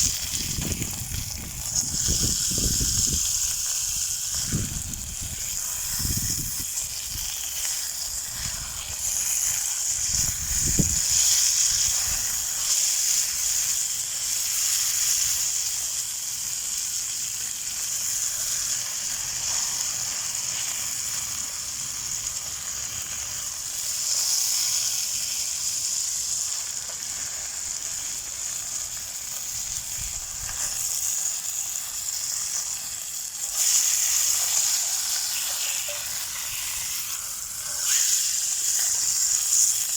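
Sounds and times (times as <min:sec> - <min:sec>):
chicken sizzling in a frying pan: 0:00.0 - 0:39.9.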